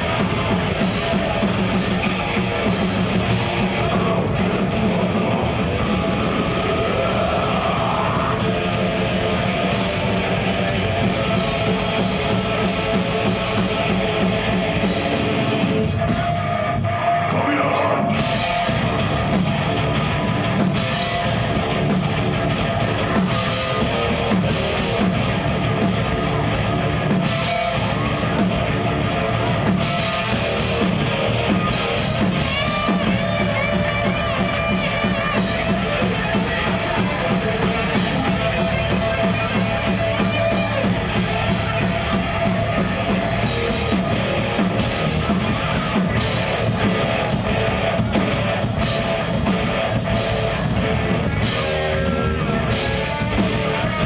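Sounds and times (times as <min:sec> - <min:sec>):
drum kit: 0:00.0 - 0:17.3, 0:18.0 - 0:54.0
distorted electric guitars: 0:00.0 - 0:54.0.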